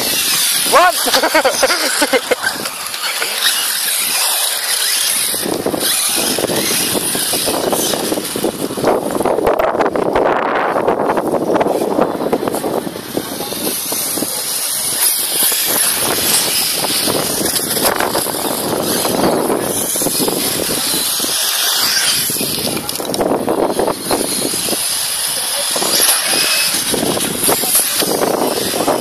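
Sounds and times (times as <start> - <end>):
electric rc buggies running: 0.0 - 29.0.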